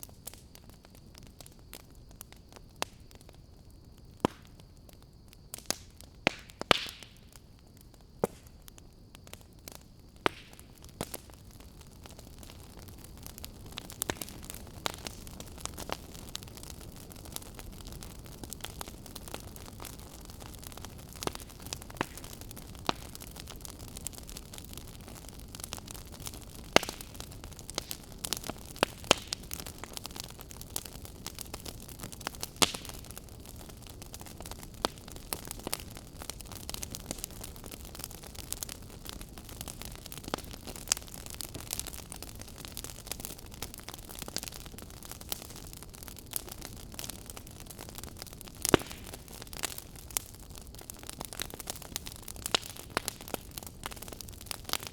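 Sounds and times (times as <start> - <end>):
fire crackling: 0.0 - 54.9.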